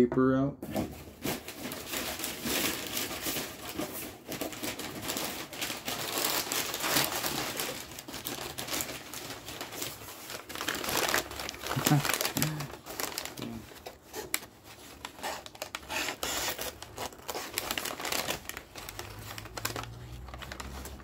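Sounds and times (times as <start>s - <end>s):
paper crinkling and rustling: 0.7s - 21.0s.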